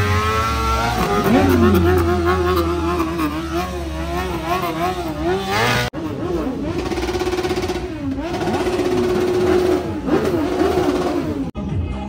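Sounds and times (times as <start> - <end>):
motorcycle engine at high revs: 0.0 - 11.5
second motorcycle engine revving: 0.0 - 11.5.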